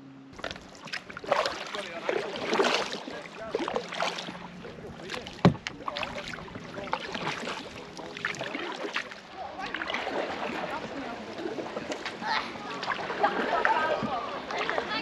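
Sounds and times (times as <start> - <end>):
canoe paddle strokes: 0.3 - 15.0
water lapping at hull: 0.3 - 15.0
water splashing and dripping: 0.4 - 15.0.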